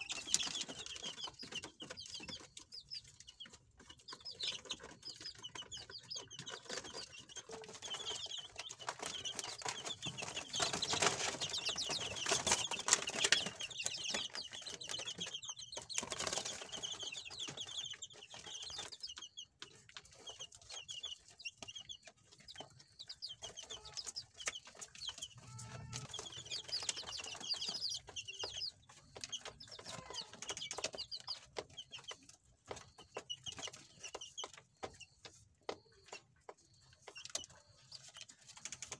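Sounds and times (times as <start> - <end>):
chicks peeping: 0.0 - 38.9
rustling and scraping: 3.4 - 38.9.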